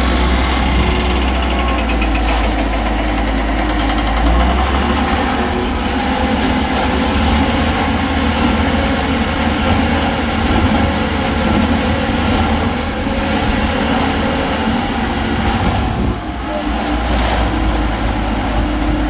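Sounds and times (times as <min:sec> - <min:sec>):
concrete mixer engine droning: 0:00.0 - 0:19.0.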